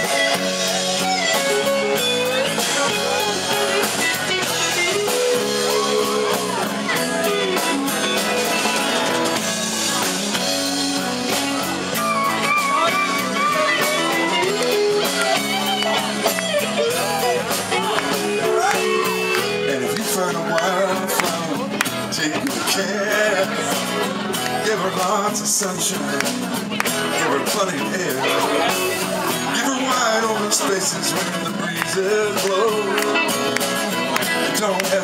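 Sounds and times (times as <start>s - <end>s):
lead guitar with bent notes: 0.0s - 35.0s
rock band playing: 0.0s - 35.0s.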